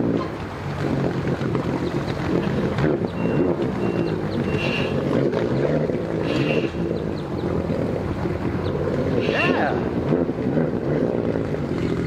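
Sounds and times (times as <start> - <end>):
jet churning water: 0.0 - 12.0
jet ski engine running: 0.0 - 12.0.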